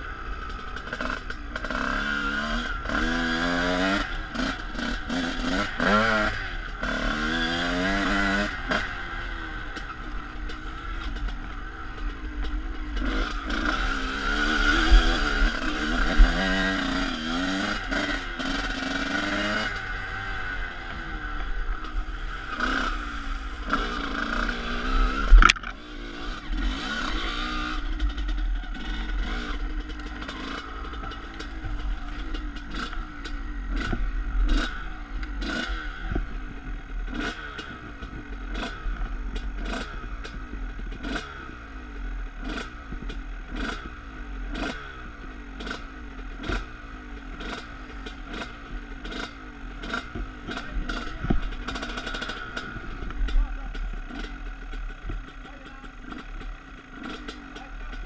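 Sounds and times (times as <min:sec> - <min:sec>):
dirt bike engine: 0:00.0 - 0:58.0.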